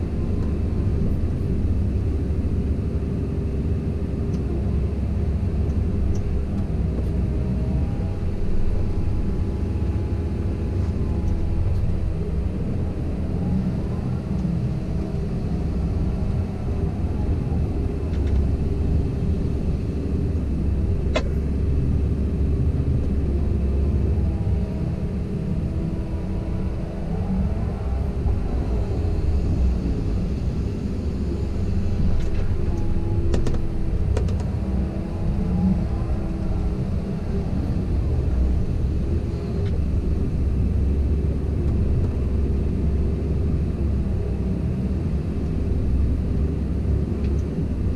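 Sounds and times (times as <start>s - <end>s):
excavator engine droning: 0.0s - 47.9s.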